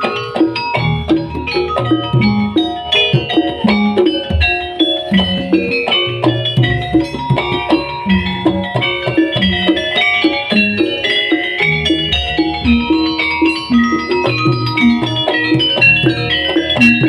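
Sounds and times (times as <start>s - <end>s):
struck metallic notes: 0.0s - 17.0s.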